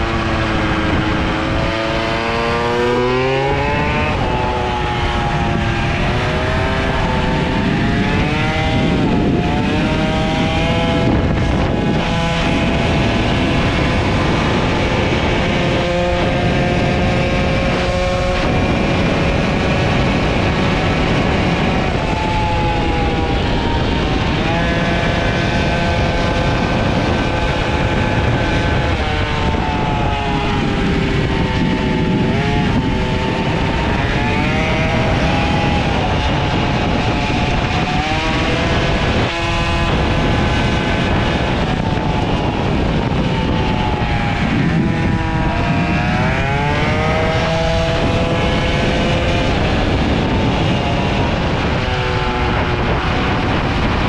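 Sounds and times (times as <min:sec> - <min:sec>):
moped engine revving: 0:00.0 - 0:54.0.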